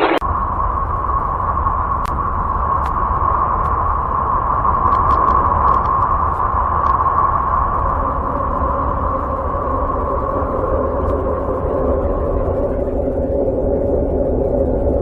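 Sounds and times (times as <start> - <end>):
low rumble: 0.0 - 15.0
mid-pitched hum: 0.0 - 15.0.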